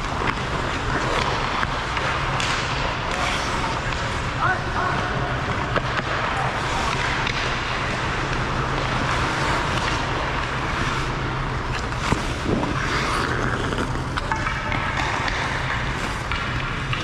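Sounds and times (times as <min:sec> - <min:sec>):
skates scraping ice: 0:00.0 - 0:17.0.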